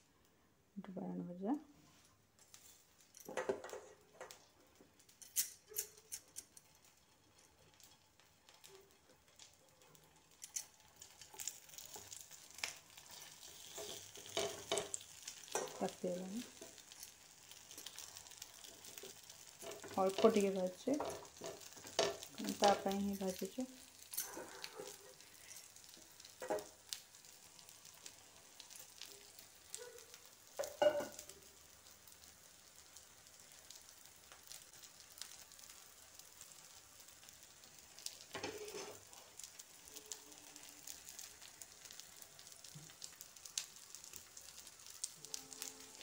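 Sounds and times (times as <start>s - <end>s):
eggplant sizzling in oil: 1.3s - 46.0s.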